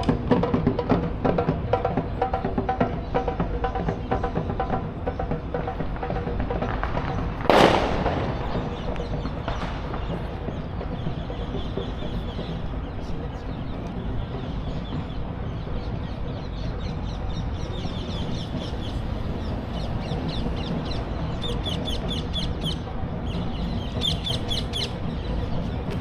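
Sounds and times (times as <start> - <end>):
birds chirping: 0.0 - 26.0
low outdoor rumble: 0.0 - 26.0.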